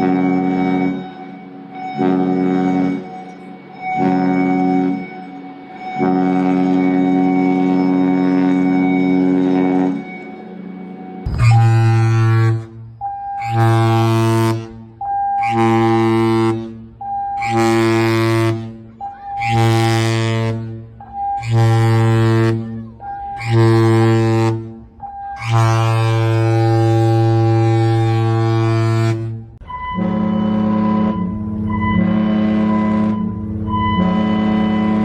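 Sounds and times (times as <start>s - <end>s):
high steady alarm tone: 0.0s - 28.3s, 29.6s - 35.0s
ship horn blasts: 0.0s - 35.0s.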